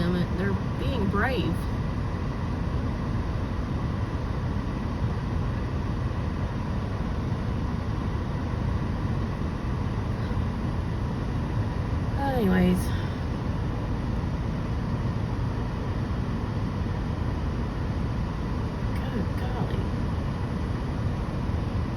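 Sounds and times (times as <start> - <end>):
faint even hum: 0.0 - 21.9
low vehicle rumble: 0.0 - 21.9.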